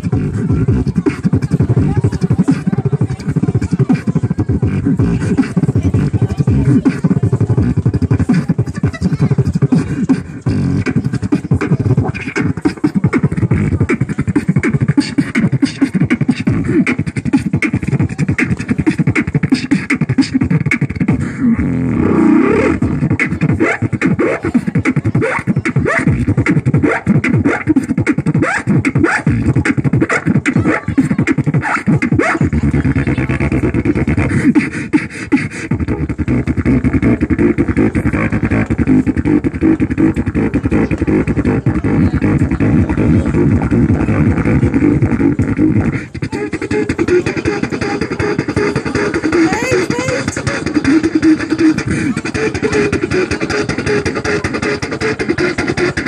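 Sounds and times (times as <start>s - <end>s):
beatboxing through a speaker: 0.0s - 56.0s
held pitched vocal sound: 0.0s - 56.0s.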